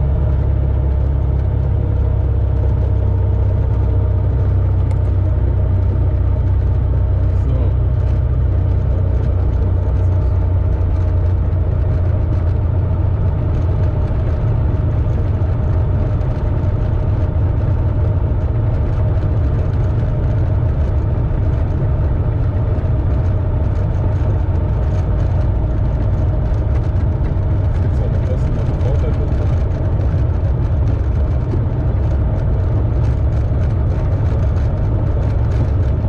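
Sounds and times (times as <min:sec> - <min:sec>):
propeller aircraft engine drone: 0:00.0 - 0:36.0.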